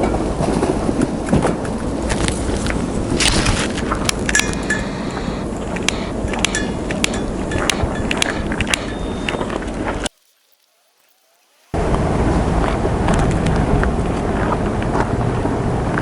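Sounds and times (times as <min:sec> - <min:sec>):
wind noise: 0:00.0 - 0:10.2, 0:11.1 - 0:16.0.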